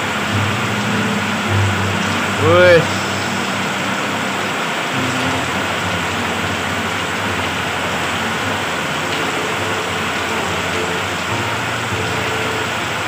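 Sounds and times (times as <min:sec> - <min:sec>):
heavy rain on metal roof: 0:00.0 - 0:13.0.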